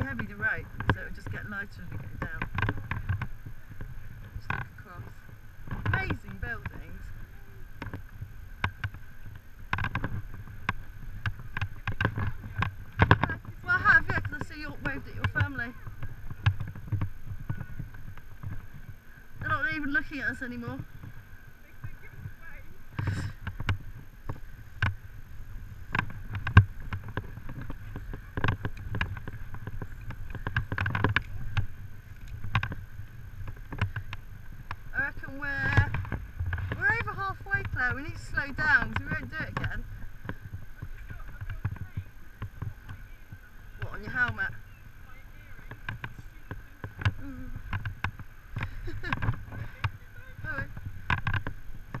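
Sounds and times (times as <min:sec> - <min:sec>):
rope and metal hardware clicks: 0:00.0 - 0:21.2, 0:22.9 - 0:43.0, 0:45.3 - 0:52.0
faint steady whine: 0:00.0 - 0:52.0
low rumble: 0:00.0 - 0:52.0.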